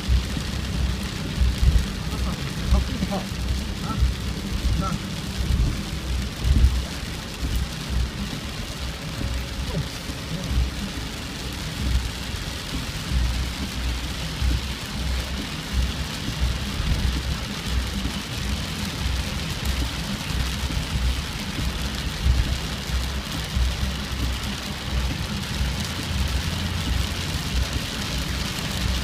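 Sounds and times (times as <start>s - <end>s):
low rumble: 0.0s - 29.0s
rain falling: 0.0s - 29.0s.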